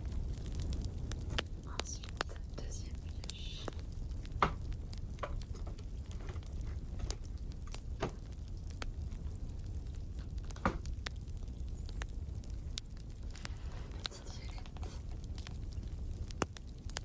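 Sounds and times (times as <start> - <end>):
low rumble: 0.0 - 17.0
wood fire crackling: 0.0 - 17.0.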